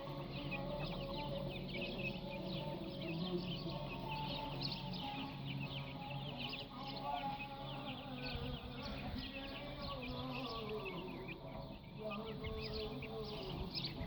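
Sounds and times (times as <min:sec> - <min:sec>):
birds chirping: 0:00.0 - 0:14.0
birds clucking: 0:00.0 - 0:14.0.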